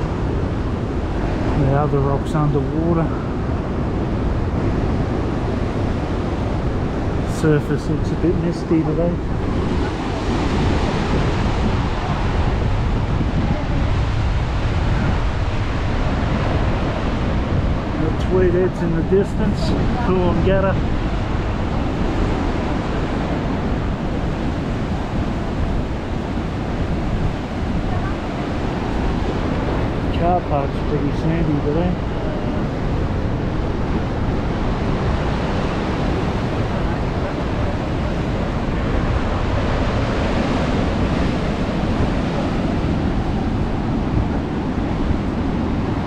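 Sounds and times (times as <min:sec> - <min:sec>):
waves breaking and washing in: 0:00.0 - 0:46.0
wind buffeting microphone: 0:00.0 - 0:46.0.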